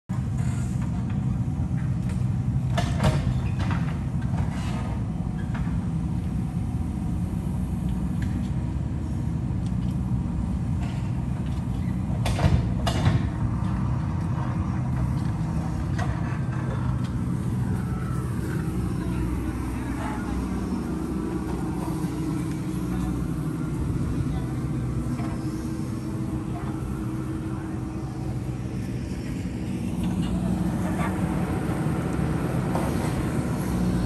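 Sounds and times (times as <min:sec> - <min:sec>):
diesel engine running: 0:00.1 - 0:34.0.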